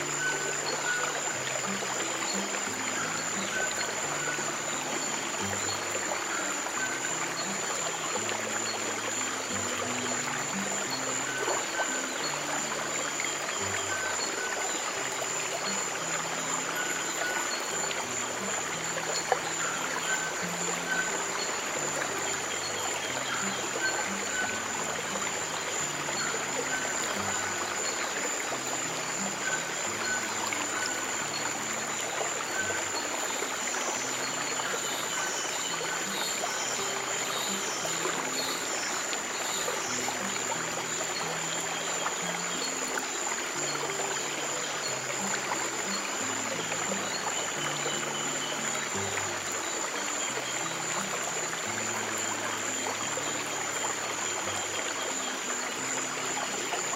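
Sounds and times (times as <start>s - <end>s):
stream water trickling: 0.0s - 56.9s.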